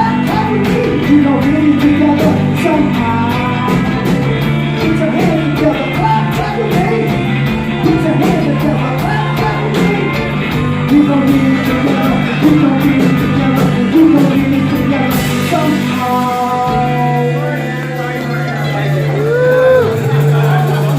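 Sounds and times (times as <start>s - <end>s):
person singing: 0.0s - 20.8s
live band music: 0.0s - 20.9s.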